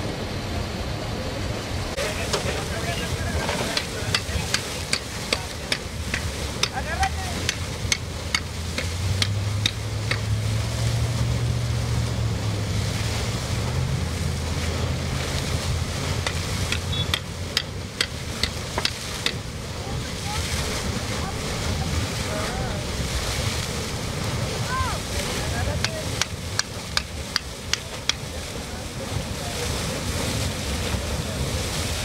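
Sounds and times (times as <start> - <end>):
low steady hum: 0.0 - 32.0
water gushing from hydrant: 0.0 - 32.0.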